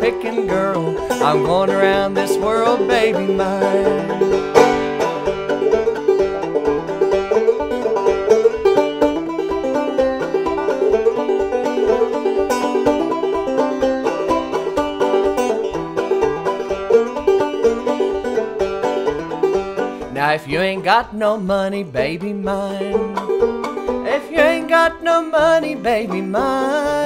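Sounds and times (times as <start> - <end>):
banjo picking: 0.0 - 27.0.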